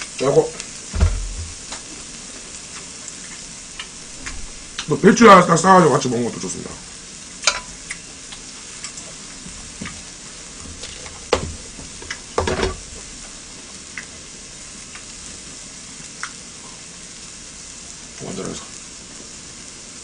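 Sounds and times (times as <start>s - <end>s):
food sizzling on grill pan: 0.0s - 20.0s.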